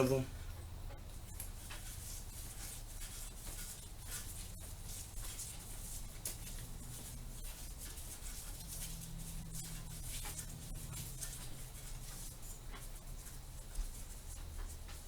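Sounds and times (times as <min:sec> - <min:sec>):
soft low hum: 0:00.0 - 0:15.0.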